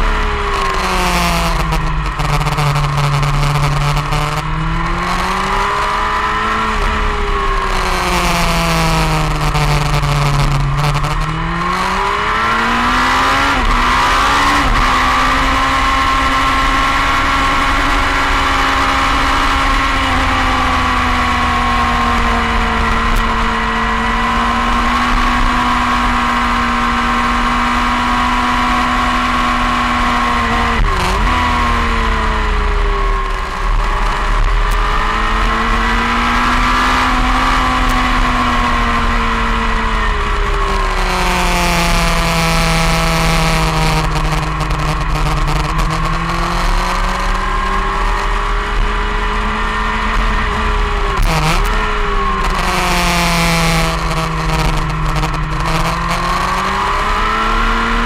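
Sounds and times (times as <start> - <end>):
motorcycle engine at speed: 0.0 - 58.0.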